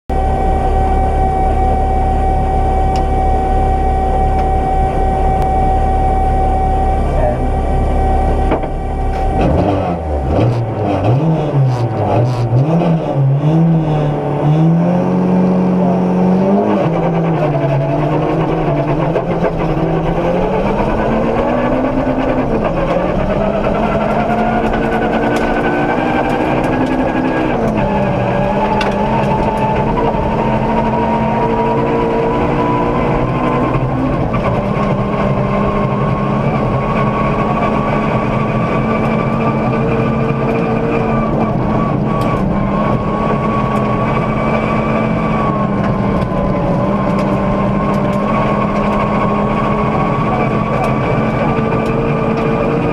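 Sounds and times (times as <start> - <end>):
car engine revving through gears: 0.2 - 52.9.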